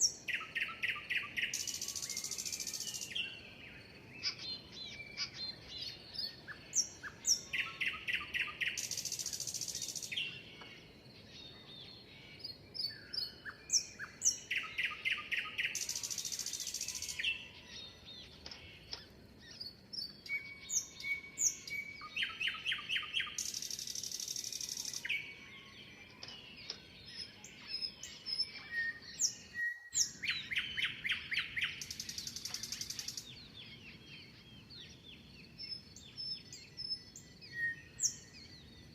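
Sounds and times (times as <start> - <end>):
other birds chirping: 0.0 - 38.9
songbird singing: 0.0 - 38.9.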